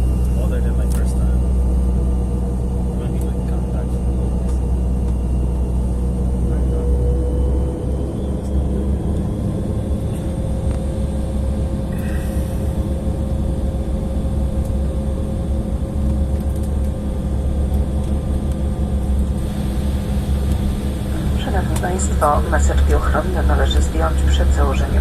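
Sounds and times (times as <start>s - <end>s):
airliner cabin rumble: 0.0s - 25.0s
jet engine hum: 0.0s - 25.0s.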